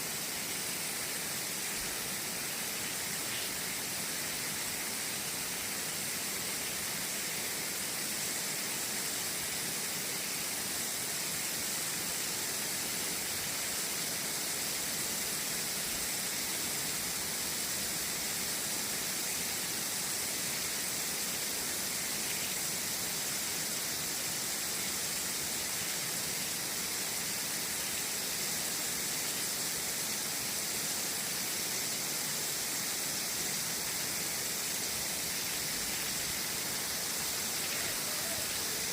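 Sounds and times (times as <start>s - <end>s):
hose water hissing: 0.0s - 38.9s.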